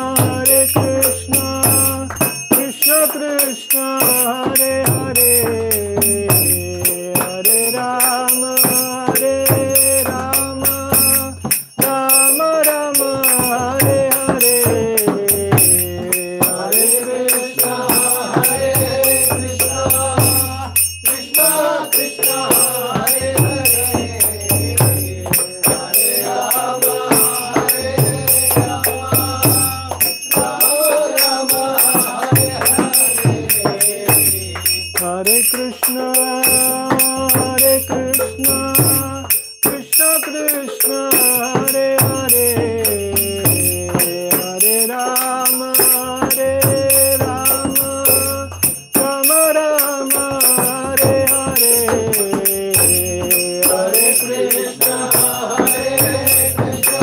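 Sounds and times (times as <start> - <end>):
devotional singing: 0.0 - 57.0.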